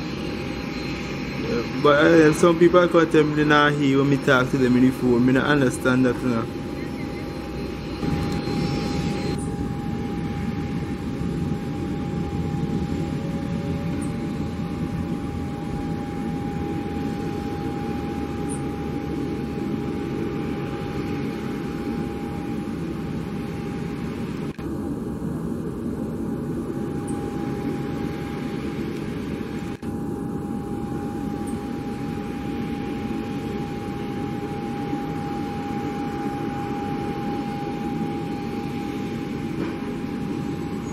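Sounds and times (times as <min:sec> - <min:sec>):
jet engines whining at taxi power: 0:00.0 - 0:40.9.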